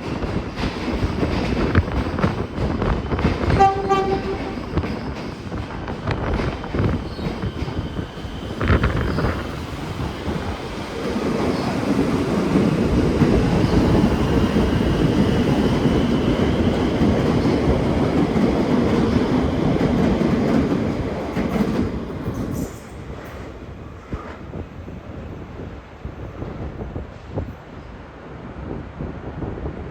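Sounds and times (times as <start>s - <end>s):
electric train rolling past: 0.0s - 29.9s.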